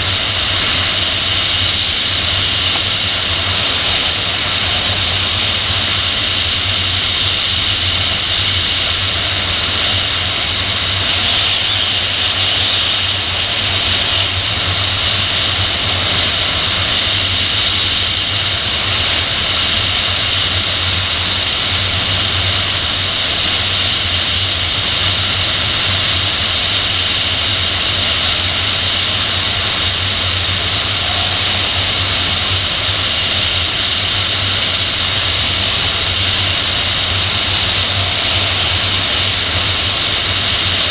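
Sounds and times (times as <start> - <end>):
airflow rushing over glider: 0.0 - 40.9.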